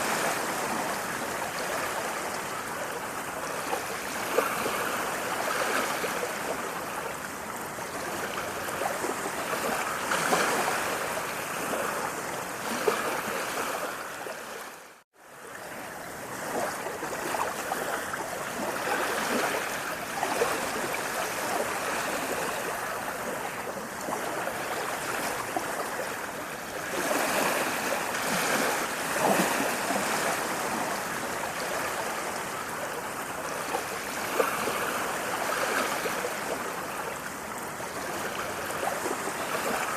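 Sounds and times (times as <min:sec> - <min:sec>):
small water splashes: 0:00.0 - 0:39.9.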